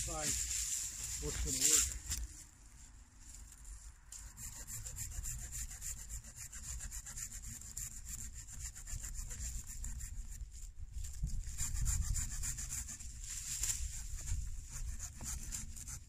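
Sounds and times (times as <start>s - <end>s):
saw cutting a branch: 0.0s - 2.3s, 4.1s - 16.0s.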